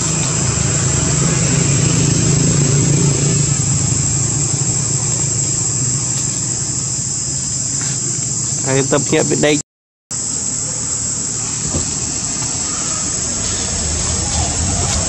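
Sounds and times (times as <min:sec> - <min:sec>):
insect chorus: 0:00.0 - 0:15.0
vehicle engine hum: 0:00.0 - 0:15.0.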